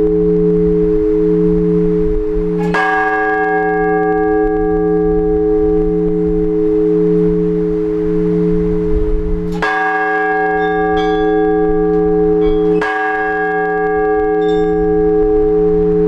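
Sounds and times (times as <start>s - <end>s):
large church bell ringing: 0.0s - 16.0s.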